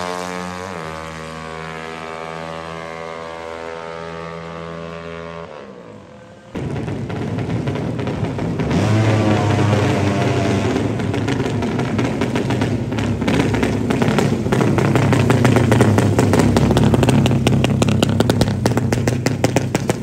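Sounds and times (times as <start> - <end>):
motorcycle engine with open exhaust: 0.0 - 20.0.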